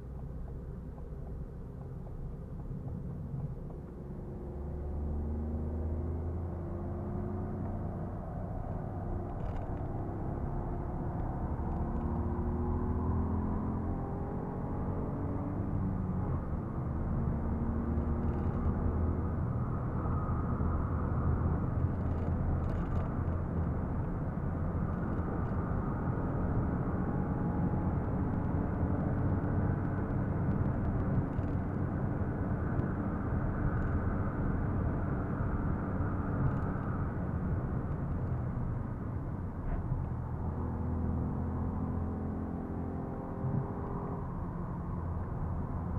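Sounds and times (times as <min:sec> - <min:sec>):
car engine drone: 0:00.0 - 0:45.9
road and tyre noise: 0:00.0 - 0:45.9.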